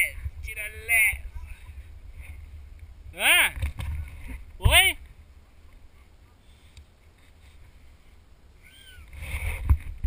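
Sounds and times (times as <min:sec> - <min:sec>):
wind rumble on microphone: 0:00.0 - 0:06.0, 0:07.4 - 0:10.0.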